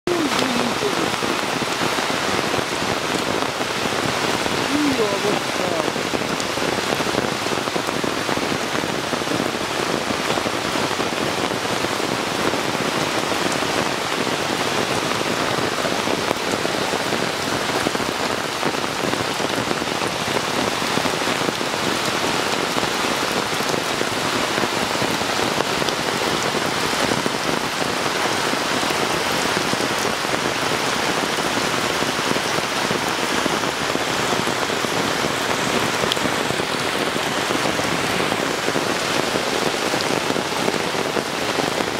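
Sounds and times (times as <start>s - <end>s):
heavy rain on water: 0.0s - 41.9s.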